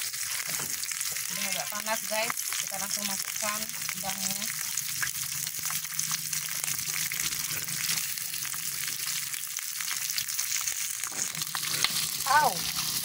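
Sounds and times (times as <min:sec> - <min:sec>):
oil crackling and popping: 0:00.0 - 0:13.0
shrimp sizzling in hot oil: 0:00.0 - 0:13.0.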